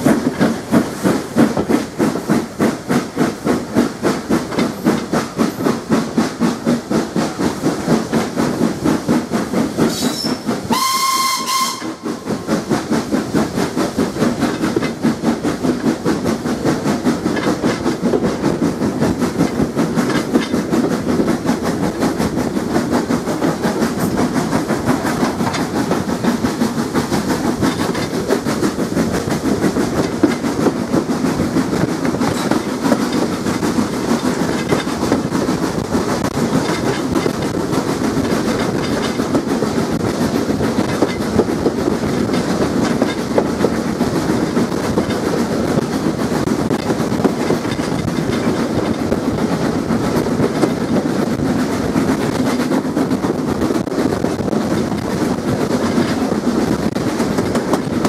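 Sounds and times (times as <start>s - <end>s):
steam locomotive running: 0.0s - 58.0s
wheels clattering on track: 0.0s - 58.0s.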